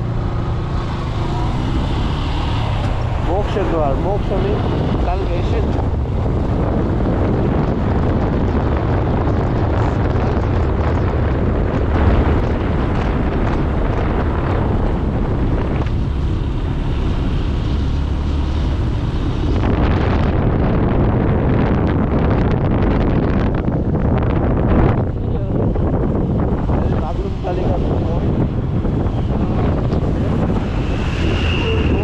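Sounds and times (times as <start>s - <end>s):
vehicle road noise: 0.0s - 32.0s
wind rumbling on microphone: 0.0s - 32.0s.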